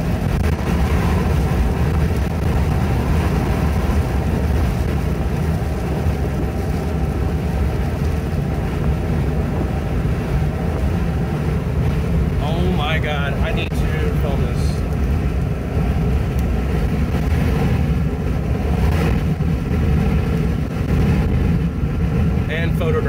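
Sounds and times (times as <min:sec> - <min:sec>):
engine and tyre rumble inside car: 0:00.0 - 0:23.0.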